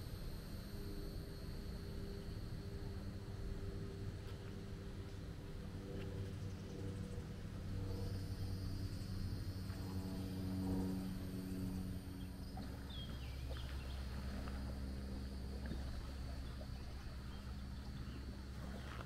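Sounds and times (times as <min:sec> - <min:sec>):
distant engine hum: 0:00.0 - 0:19.0
high insect drone: 0:00.0 - 0:19.0.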